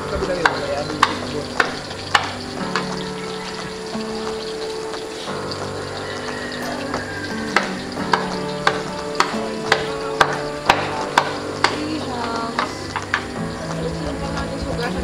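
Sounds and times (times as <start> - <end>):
held music tones: 0.0 - 15.0
light clicking beat: 0.0 - 15.0.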